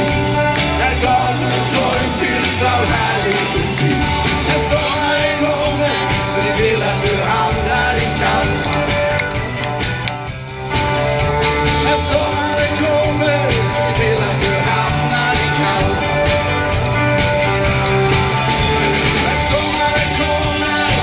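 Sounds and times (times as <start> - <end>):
drum kit: 0.0 - 21.0
keyboards: 0.0 - 21.0.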